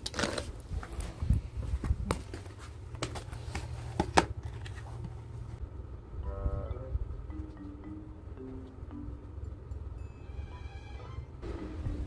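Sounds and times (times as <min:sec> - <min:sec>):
low steady rumble: 0:00.5 - 0:12.0.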